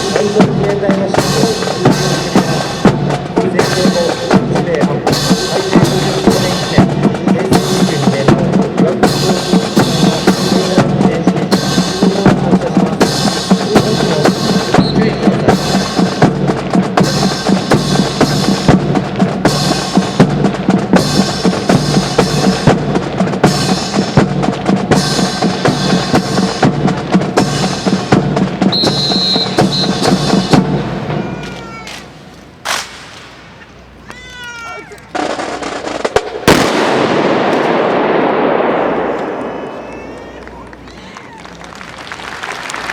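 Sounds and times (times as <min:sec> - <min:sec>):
marching drums cadence: 0:00.0 - 0:42.9.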